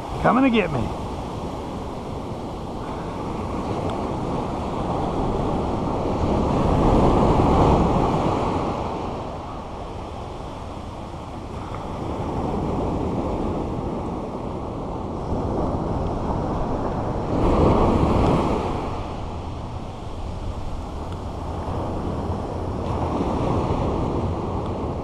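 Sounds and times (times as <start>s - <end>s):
waves breaking on shore: 0.0s - 25.0s.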